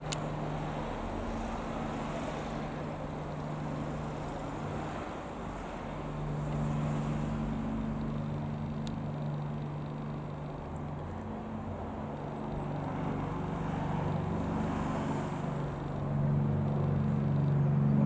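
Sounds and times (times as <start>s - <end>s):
broad rushing noise: 0.0s - 18.0s
engine drone: 0.0s - 18.0s.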